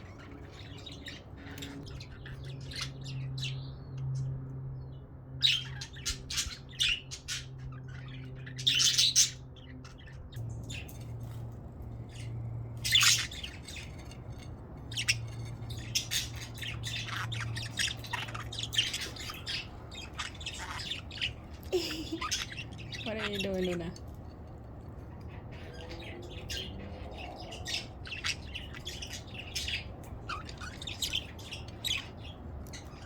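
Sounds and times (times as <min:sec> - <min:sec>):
budgerigars chirping and squawking: 0:00.0 - 0:04.4, 0:05.4 - 0:33.0.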